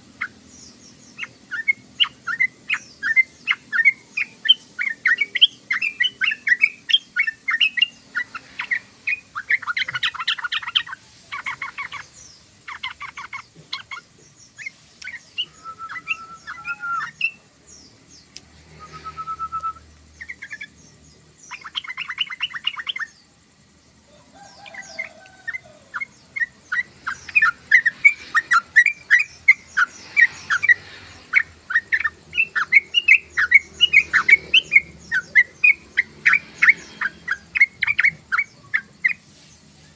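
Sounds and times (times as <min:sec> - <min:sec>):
bird chattering: 0:00.2 - 0:17.4, 0:20.2 - 0:23.2, 0:24.4 - 0:39.2.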